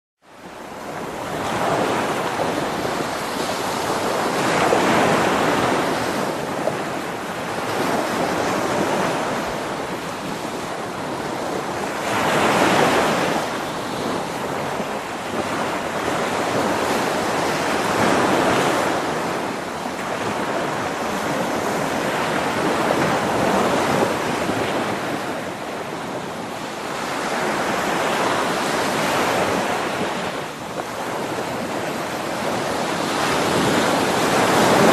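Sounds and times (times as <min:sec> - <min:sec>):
sea waves washing: 0:00.4 - 0:34.9.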